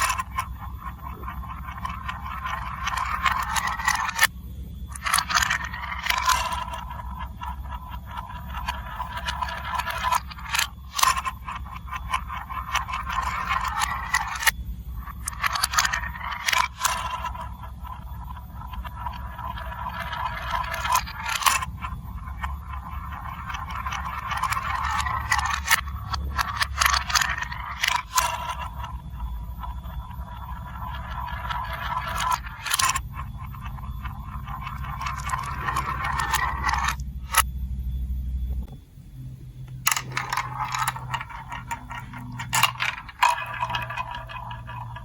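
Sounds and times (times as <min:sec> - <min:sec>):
marbles clicking against pieces: 0:00.0 - 0:04.3, 0:04.9 - 0:37.5, 0:39.6 - 0:45.0
marbles rolling on plastic track: 0:00.0 - 0:04.3, 0:04.9 - 0:37.5, 0:39.6 - 0:45.0.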